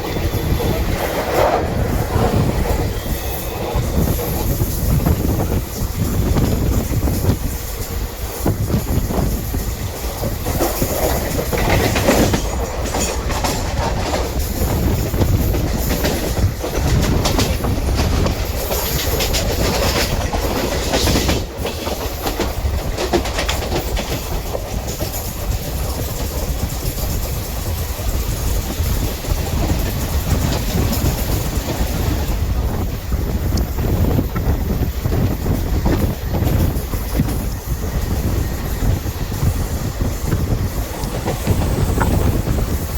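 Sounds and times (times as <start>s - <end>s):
passenger train rumbling: 0.0s - 42.9s
wheels clicking over rail joints: 0.0s - 42.9s.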